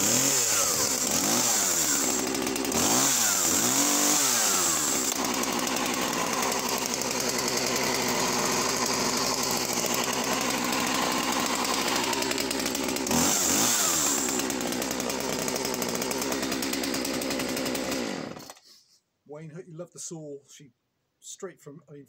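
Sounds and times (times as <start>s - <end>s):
chainsaw idling: 0.0s - 18.8s
chainsaw revving: 0.0s - 18.8s.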